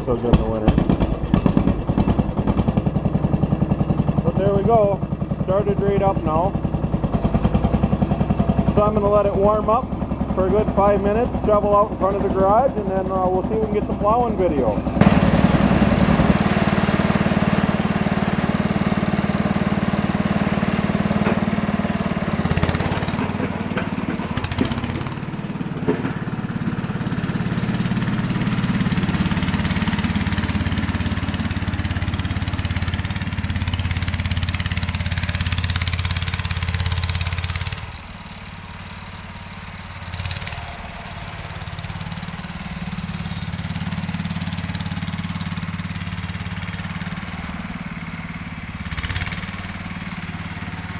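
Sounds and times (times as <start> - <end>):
garden tractor engine running: 0.0 - 50.9.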